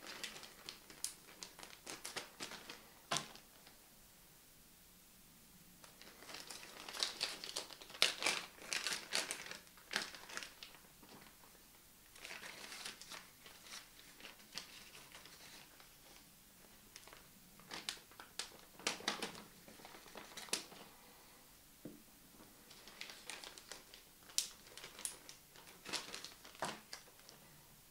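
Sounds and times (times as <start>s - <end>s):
plastic bags crinkling: 0.0s - 3.8s, 5.8s - 16.2s, 16.9s - 20.9s, 22.6s - 27.4s.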